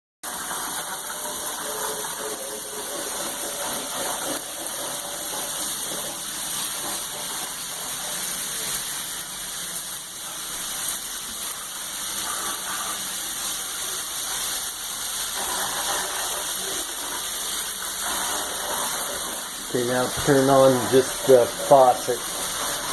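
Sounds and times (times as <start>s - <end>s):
shower spraying into bathtub: 0.2s - 22.9s.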